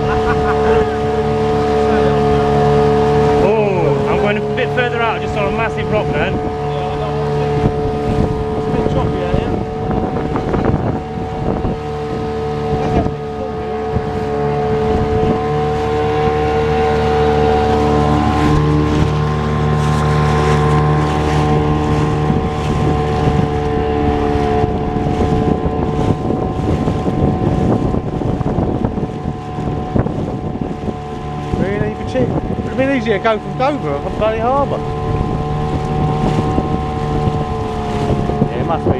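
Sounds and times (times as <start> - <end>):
motorboat engine running: 0.0 - 38.9
water splashing: 0.0 - 38.9
wind: 0.0 - 38.9.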